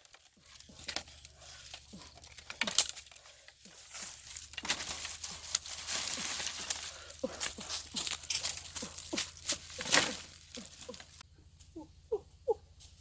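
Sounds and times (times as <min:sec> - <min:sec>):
rustling and crinkling: 0:00.0 - 0:11.3.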